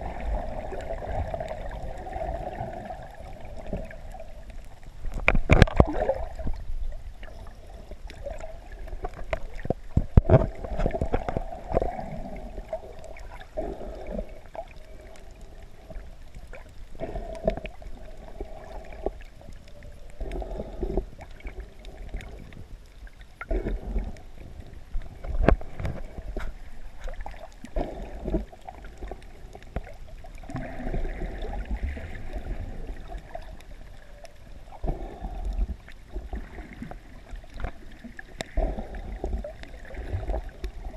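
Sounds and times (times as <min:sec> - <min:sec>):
muffled underwater sloshing: 0:00.0 - 0:40.9.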